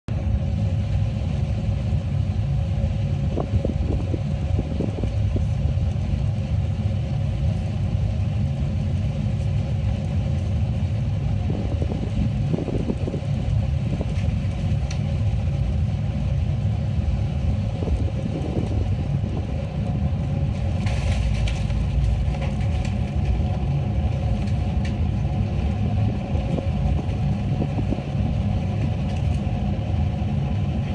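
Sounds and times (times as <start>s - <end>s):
airliner engines and airflow rumble: 0.0s - 30.9s
constant hum: 0.1s - 30.9s.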